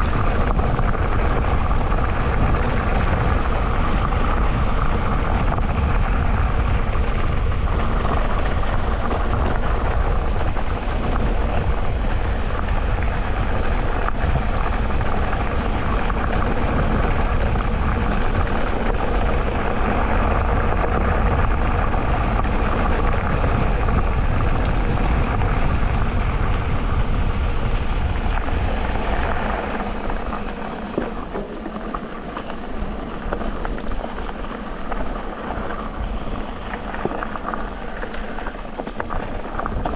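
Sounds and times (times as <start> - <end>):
bike tyres rumbling on dirt: 0.0 - 39.9.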